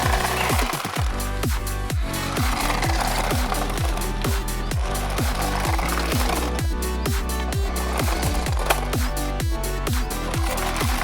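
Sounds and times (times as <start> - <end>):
electronic music with heavy kick: 0.0 - 11.0.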